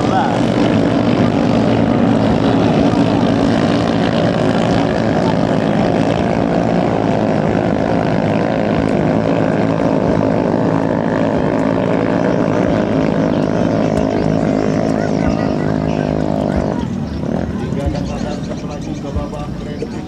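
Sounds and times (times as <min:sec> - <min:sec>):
small boat engine buzzing drone: 0:00.0 - 0:20.0.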